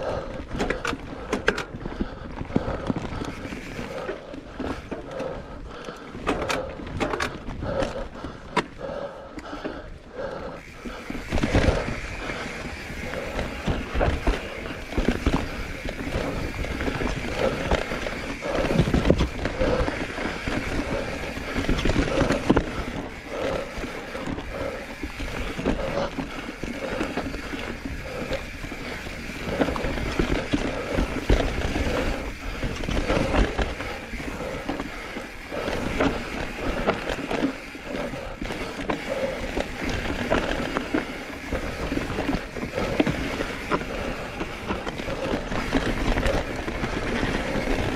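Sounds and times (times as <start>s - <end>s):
bike chain and frame rattling: 0.0s - 47.9s
bike tyres crunching over stones: 0.0s - 47.9s.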